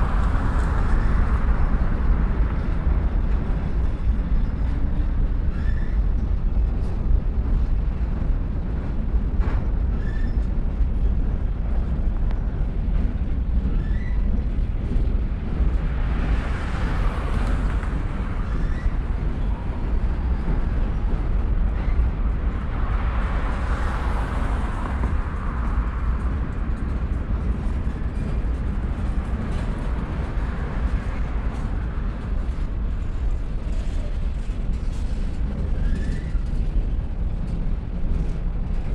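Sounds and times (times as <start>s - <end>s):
freight train rumbling over bridge: 0.0s - 38.9s.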